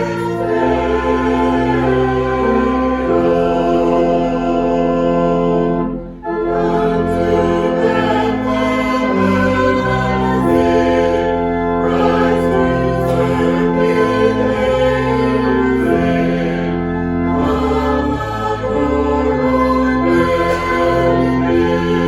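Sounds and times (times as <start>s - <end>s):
choir singing sacred music: 0.0s - 22.0s
organ chords: 0.0s - 22.0s.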